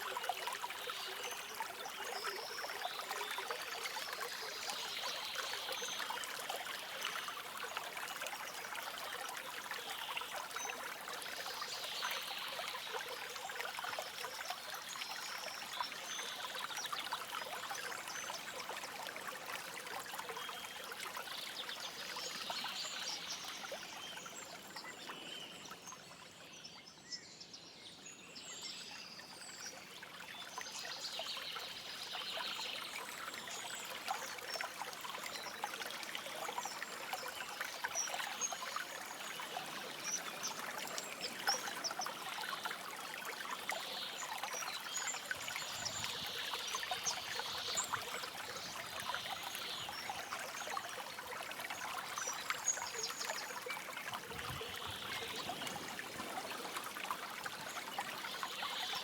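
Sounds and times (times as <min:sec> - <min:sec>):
stream babbling over stones: 0:00.0 - 0:25.7, 0:29.5 - 0:59.0.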